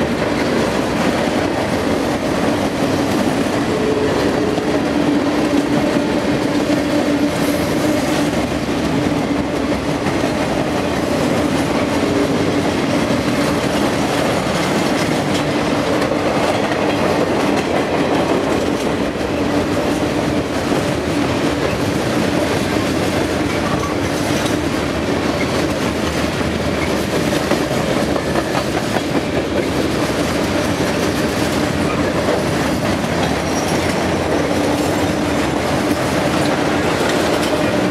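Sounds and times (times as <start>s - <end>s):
train wheels rumbling on rail: 0.0s - 37.9s
wheels clicking over rail joints: 2.7s - 37.9s.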